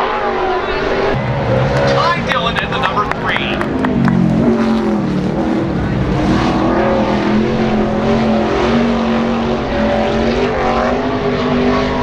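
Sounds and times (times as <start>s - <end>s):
race truck engine at speed: 0.0s - 12.0s.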